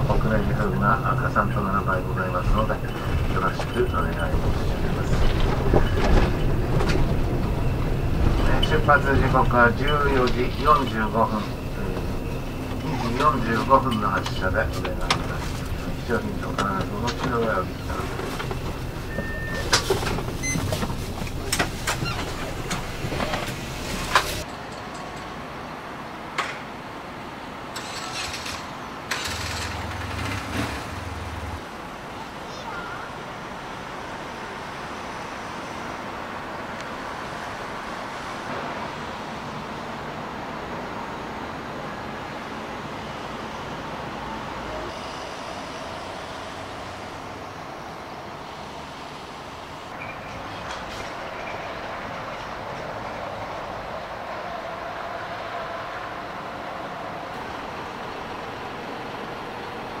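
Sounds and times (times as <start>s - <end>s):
outdoor background noise: 0.0s - 60.0s
rumble of traffic: 0.0s - 60.0s.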